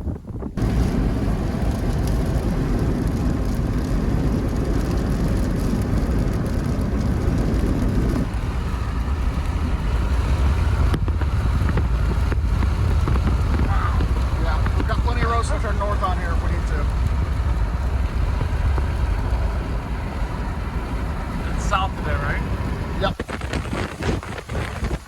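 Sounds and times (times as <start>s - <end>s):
heavy low rumble: 0.0s - 25.0s
road and wind noise: 0.0s - 25.0s.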